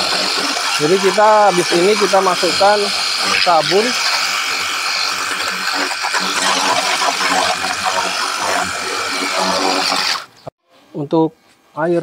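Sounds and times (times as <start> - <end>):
pump motor hum: 0.0 - 10.4
water jet hissing: 0.0 - 10.4.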